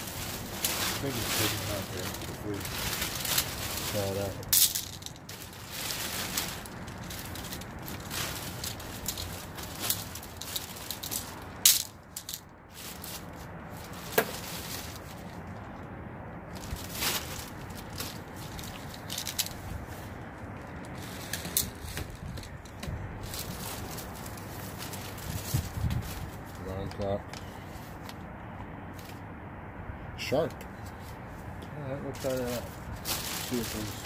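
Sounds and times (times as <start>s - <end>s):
objects rustling and rattling: 0.0s - 15.9s, 16.5s - 29.3s, 32.1s - 34.0s.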